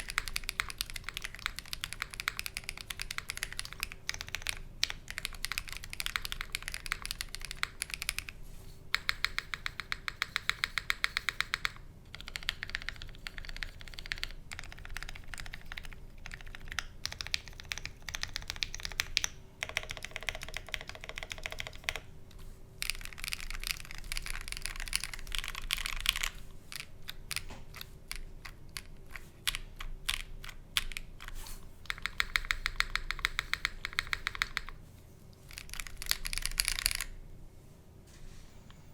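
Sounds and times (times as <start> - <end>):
mechanical keyboard typing: 0.0 - 22.1, 22.8 - 34.8, 35.5 - 37.1.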